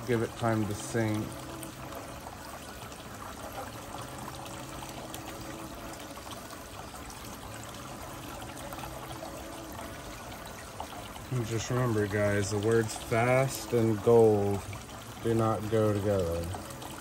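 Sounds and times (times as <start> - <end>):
water trickling over spinning wheel: 0.0 - 17.0.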